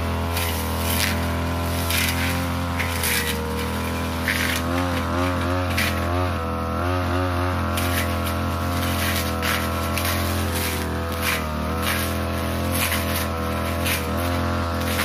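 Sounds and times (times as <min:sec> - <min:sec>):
hissing swishes of stems cut: 0:00.0 - 0:06.4, 0:07.0 - 0:15.0
brush cutter engine at high throttle: 0:00.0 - 0:15.0.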